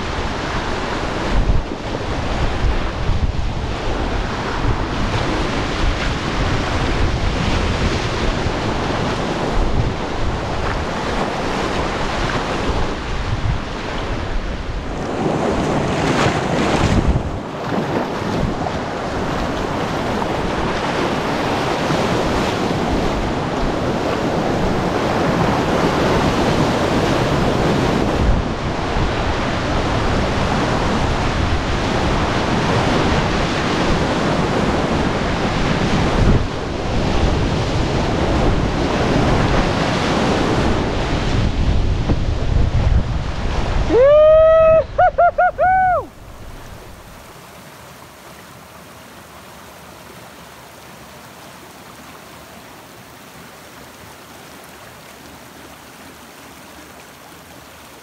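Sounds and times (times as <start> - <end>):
wind buffeting microphone: 0.0 - 47.2
river whitewater rushing: 0.0 - 58.0.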